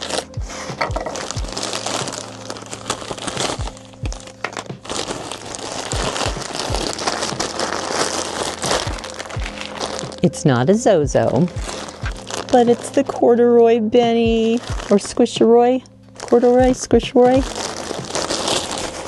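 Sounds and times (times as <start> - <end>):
plastic mailer bag crinkling: 0.0 - 15.4, 16.1 - 19.0.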